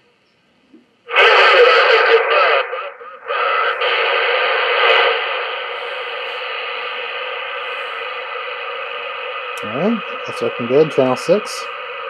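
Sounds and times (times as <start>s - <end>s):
radio static hiss: 1.0s - 12.0s.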